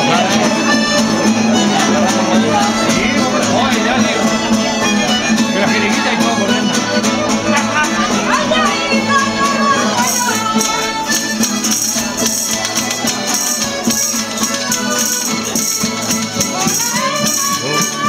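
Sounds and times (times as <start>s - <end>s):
folk band dance tune: 0.0s - 18.0s
rattling percussion: 0.0s - 18.0s.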